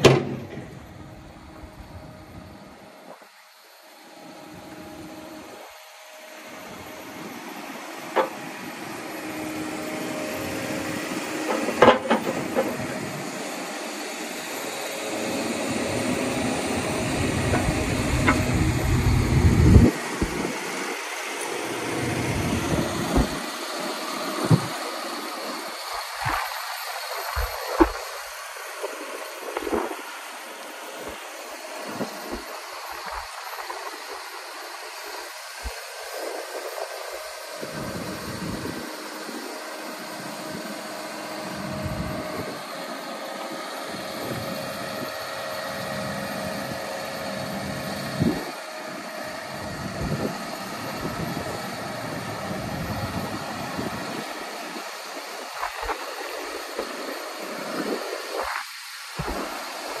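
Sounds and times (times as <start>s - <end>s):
diesel engine under hydraulic load: 0.0s - 60.0s.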